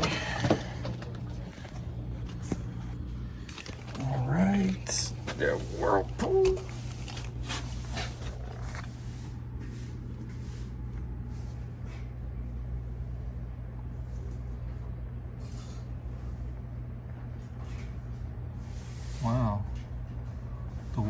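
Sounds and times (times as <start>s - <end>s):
refrigerator compressor humming: 0.0s - 21.0s.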